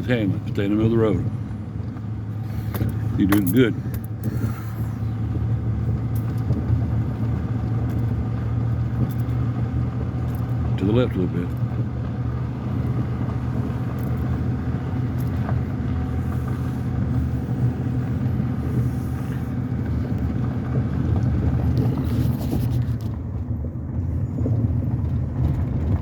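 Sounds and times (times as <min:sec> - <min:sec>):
low engine drone: 0:00.0 - 0:26.0
tyre and road noise: 0:00.0 - 0:26.0.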